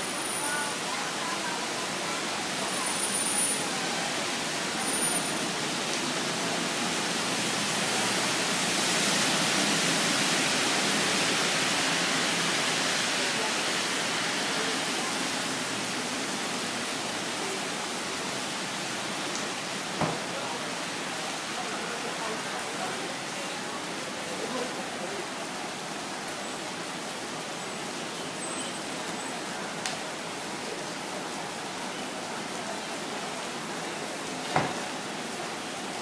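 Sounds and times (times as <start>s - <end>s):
rain on flooded road: 0.0s - 36.0s.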